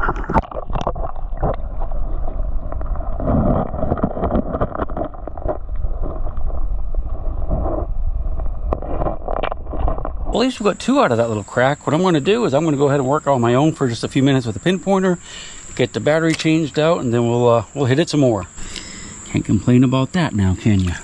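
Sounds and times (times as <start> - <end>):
water churning and gurgling: 0.0 - 19.2.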